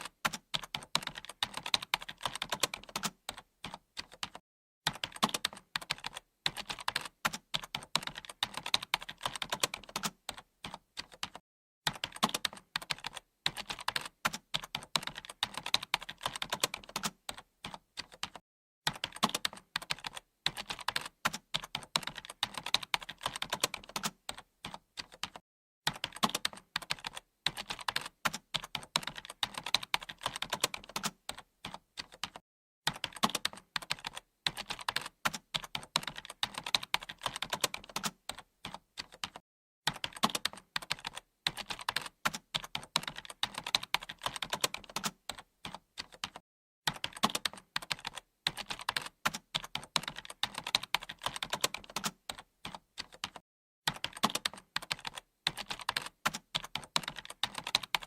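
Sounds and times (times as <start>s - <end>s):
typing on computer keyboard: 0.0s - 58.0s.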